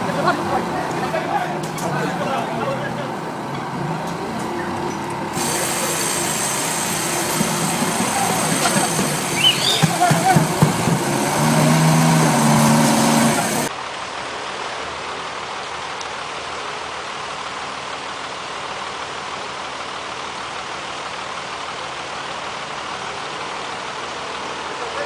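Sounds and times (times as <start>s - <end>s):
heavy machinery engine drone: 0.0s - 25.0s.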